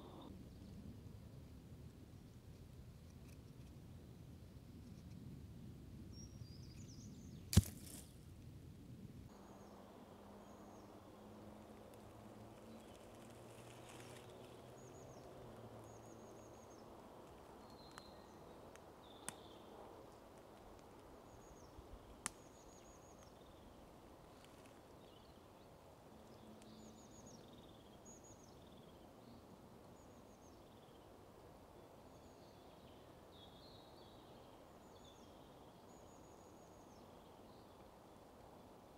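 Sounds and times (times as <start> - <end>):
small birds chirping: 0.0 - 0.8, 6.1 - 8.1, 9.3 - 38.8.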